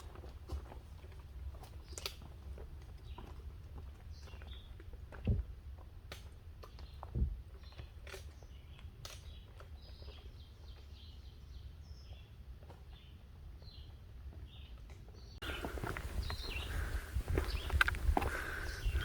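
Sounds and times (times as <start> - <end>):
footsteps on woodland trail: 0.0 - 19.0.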